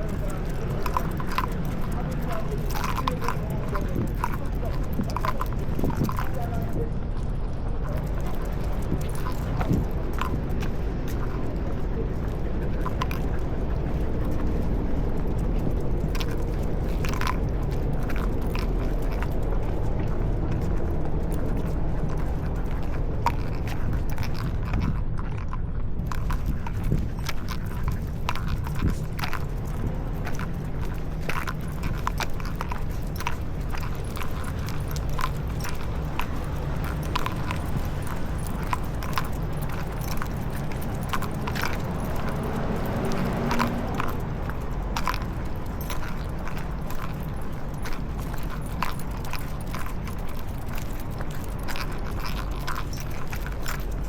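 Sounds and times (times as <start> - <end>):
leash and collar clinking: 0.0 - 54.0
low street rumble: 0.0 - 54.0.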